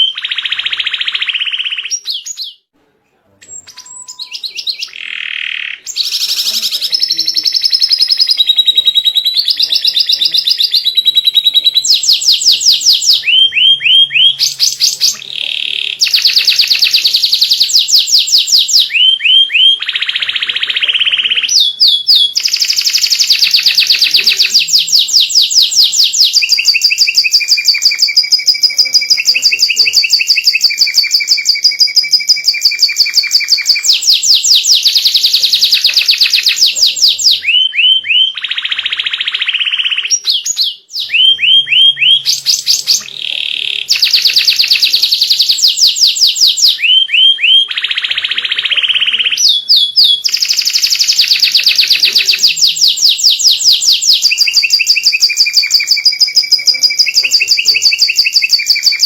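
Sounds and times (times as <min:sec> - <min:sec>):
canary singing trills: 0:00.0 - 0:02.7, 0:03.4 - 0:59.0.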